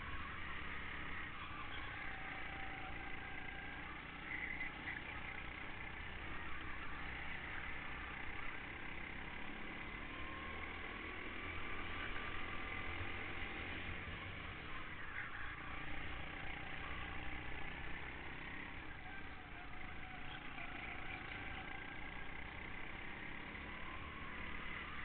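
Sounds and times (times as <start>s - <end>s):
go-kart engine running: 0.0s - 25.0s.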